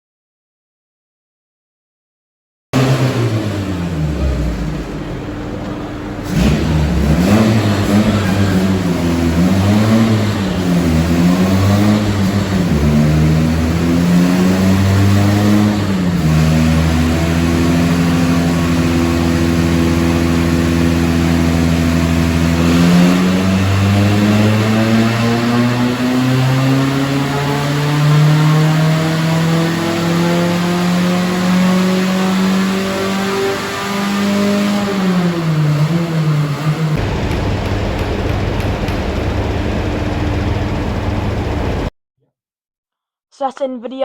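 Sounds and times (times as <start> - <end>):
car engine revving: 2.8 - 41.9.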